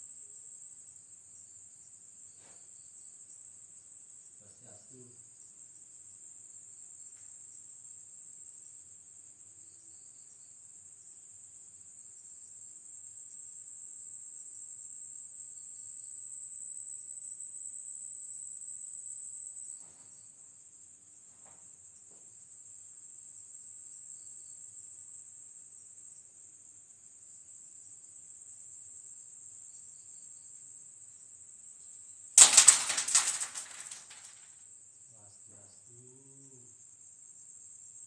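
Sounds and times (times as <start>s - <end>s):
crickets trilling: 0.0s - 21.0s, 22.6s - 38.0s.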